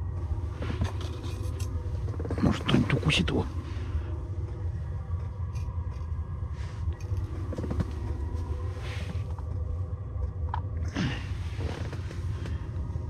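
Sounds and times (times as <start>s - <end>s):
faint steady hum: 0.0s - 13.0s
steady low rumble: 0.0s - 13.0s.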